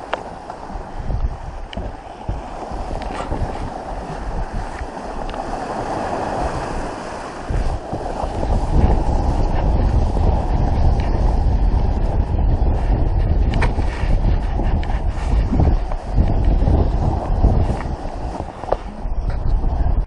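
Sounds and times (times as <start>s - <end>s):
wash of water: 0.0s - 19.8s
wind buffeting microphone: 0.0s - 20.0s.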